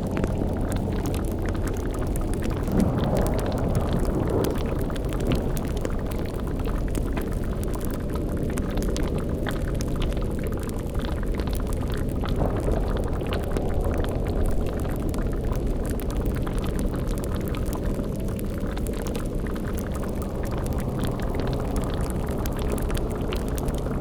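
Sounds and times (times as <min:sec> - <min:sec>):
cauldron bubbling: 0:00.0 - 0:24.0
deep rumble: 0:00.0 - 0:24.0
fire crackling: 0:00.0 - 0:24.0.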